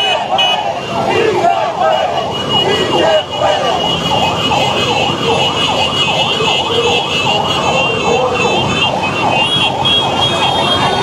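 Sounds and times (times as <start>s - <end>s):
siren yelping: 0.0s - 11.0s.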